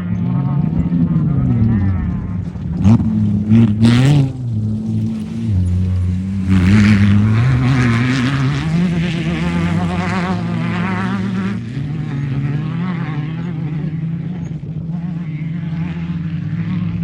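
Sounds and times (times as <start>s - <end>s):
race vehicle engine revving: 0.0s - 17.0s.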